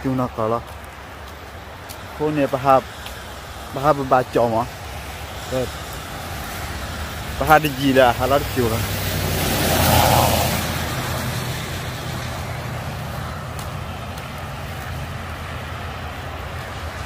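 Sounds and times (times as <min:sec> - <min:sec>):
passing traffic rushing: 0:00.0 - 0:17.0
vehicle engine and road hum: 0:00.0 - 0:17.0.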